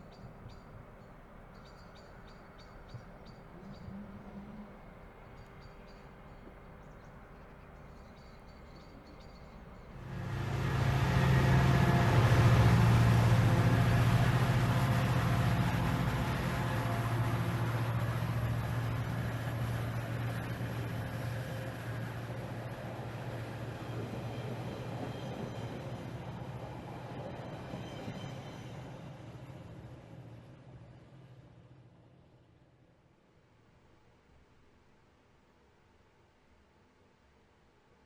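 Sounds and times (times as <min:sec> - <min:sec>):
train passing rumble: 0:00.0 - 0:32.9.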